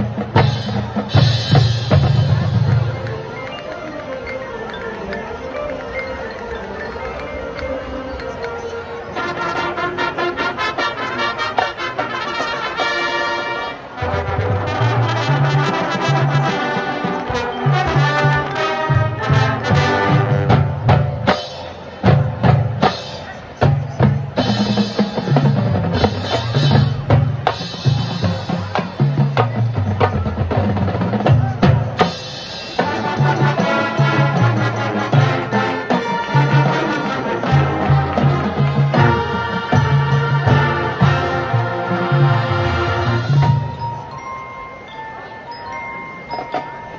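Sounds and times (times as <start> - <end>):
drums: 0.0 - 45.0
marching band playing: 0.0 - 46.9.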